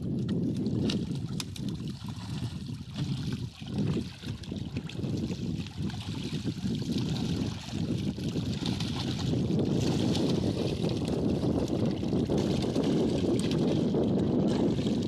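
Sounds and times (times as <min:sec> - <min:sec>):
fish thrashing and splashing in net: 0:00.7 - 0:15.0.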